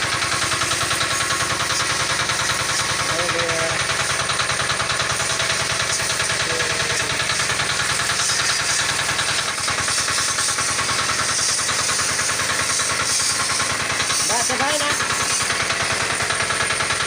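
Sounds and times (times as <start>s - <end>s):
pressure washer engine running: 0.0s - 17.0s.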